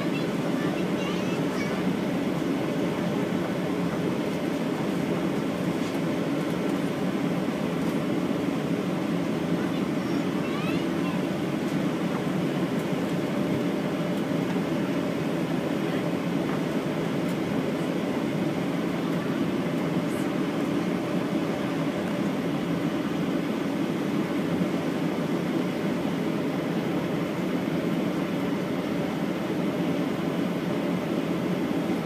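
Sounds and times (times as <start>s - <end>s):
airplane cabin rumble: 0.0s - 32.0s.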